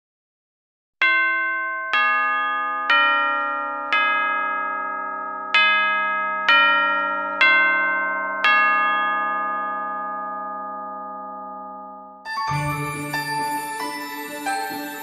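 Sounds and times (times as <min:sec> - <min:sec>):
bell tones slow melody: 0:01.0 - 0:15.0.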